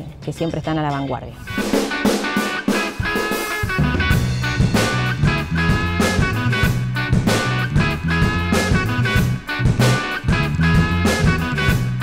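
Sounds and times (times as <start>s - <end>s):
drum beat: 1.5s - 12.0s
heavy bass line: 1.5s - 12.0s.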